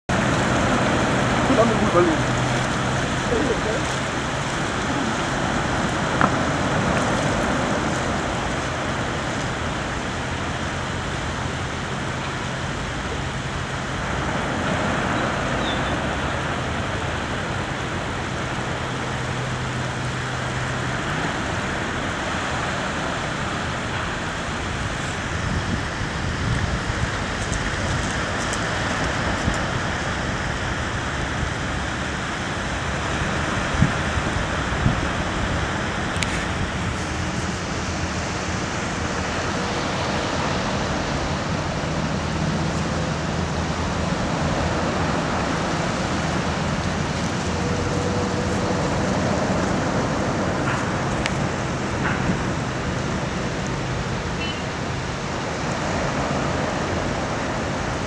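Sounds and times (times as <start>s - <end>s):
waves washing on sand: 0.0s - 58.0s.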